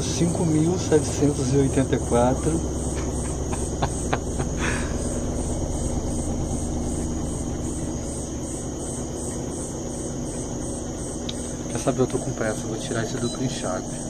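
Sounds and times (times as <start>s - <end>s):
pulsing high whine: 0.0s - 14.0s
washing machine motor hum: 0.0s - 14.0s.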